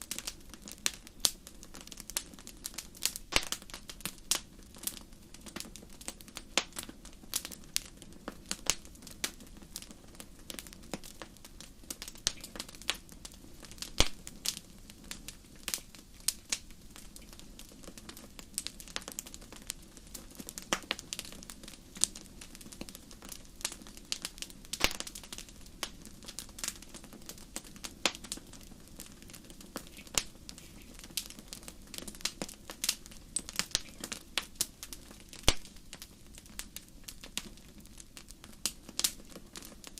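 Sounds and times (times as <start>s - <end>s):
firewood popping and snapping: 0.0s - 39.9s
low hiss of flame: 0.0s - 39.9s.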